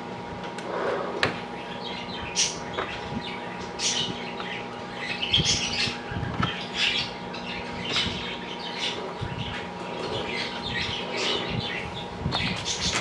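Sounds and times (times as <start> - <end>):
small birds chirping: 1.4 - 13.0.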